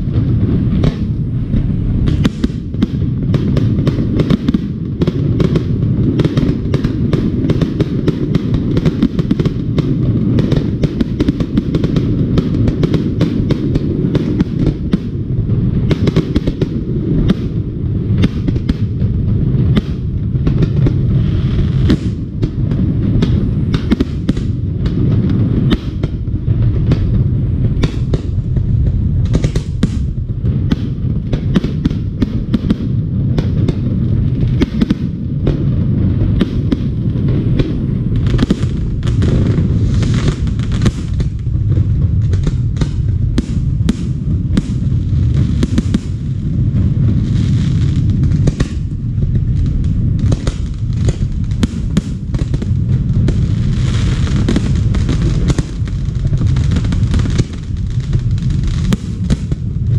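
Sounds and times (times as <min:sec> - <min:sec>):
firework shells bursting: 0:00.0 - 0:59.9
low rumble of booms: 0:00.0 - 0:59.9.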